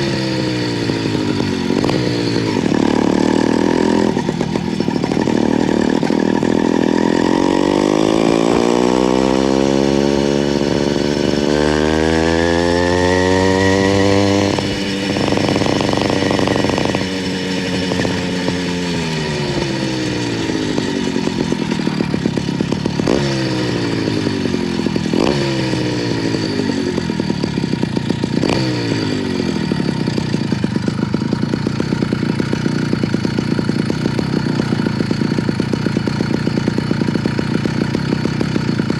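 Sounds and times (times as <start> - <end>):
motorized bicycle engine revving: 0.0 - 38.9.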